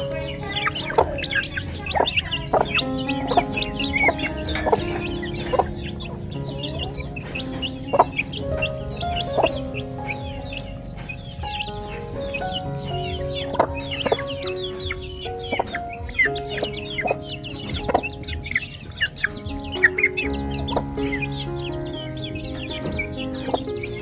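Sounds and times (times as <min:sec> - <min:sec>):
background music with held notes: 0:00.0 - 0:24.0
chickens clucking: 0:00.0 - 0:24.0.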